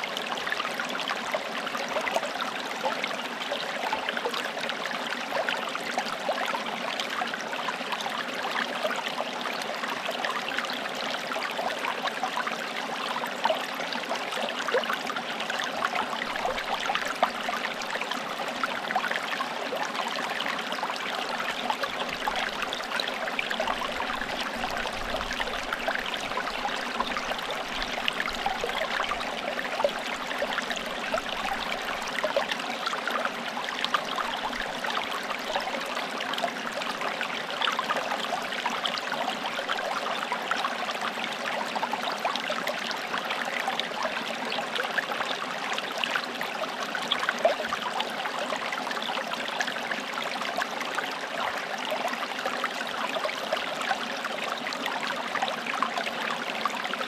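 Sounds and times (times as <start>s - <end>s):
stream water trickling over stones: 0.0s - 57.0s.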